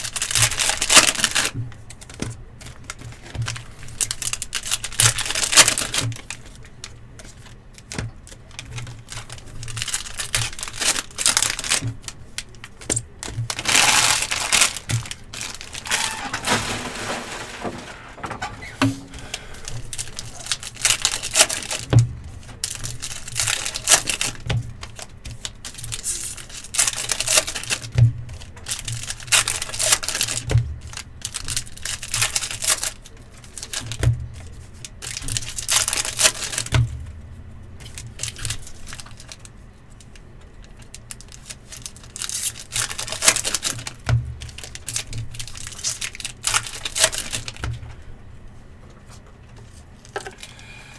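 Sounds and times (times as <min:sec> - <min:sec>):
wrappers crinkling and ripping: 0:00.0 - 0:18.2, 0:19.2 - 0:36.9, 0:37.8 - 0:47.9.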